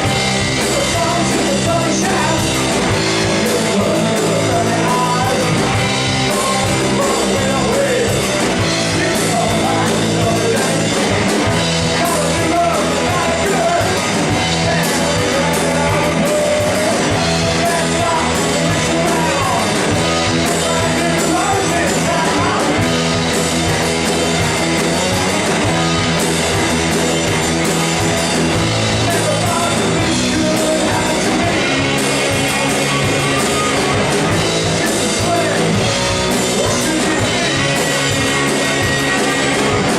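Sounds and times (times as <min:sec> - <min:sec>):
person singing: 0:00.0 - 0:23.1, 0:28.9 - 0:39.9
live punk rock band: 0:00.0 - 0:39.9.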